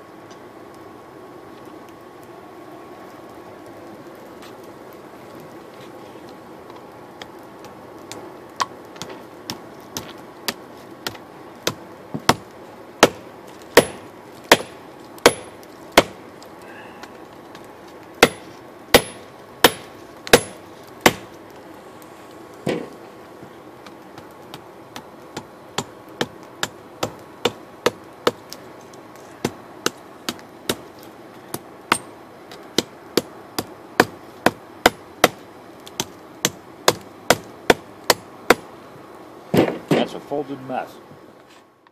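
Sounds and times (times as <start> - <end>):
forge burner hissing: 0.0 - 41.8.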